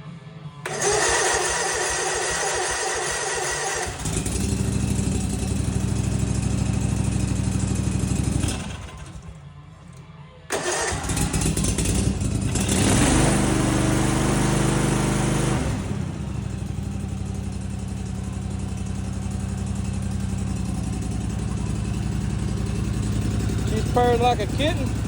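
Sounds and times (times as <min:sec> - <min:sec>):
mower engine running: 0:00.6 - 0:09.4, 0:10.5 - 0:25.0.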